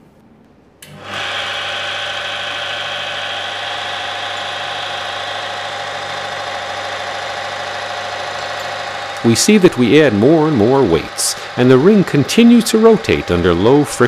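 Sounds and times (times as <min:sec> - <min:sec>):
friction tester motor hum: 0:00.8 - 0:14.0
high whine: 0:00.8 - 0:14.0.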